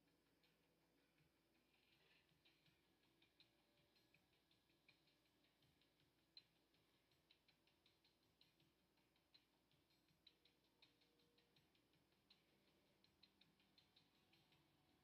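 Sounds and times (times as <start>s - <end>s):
paintbrush dabbing ticks: 1.8s - 15.0s.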